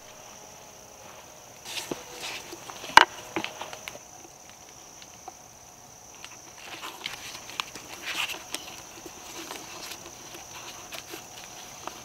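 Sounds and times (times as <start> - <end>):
high insect drone: 0.0 - 12.0
paper rustling and crinkling: 1.0 - 5.2, 6.2 - 12.0.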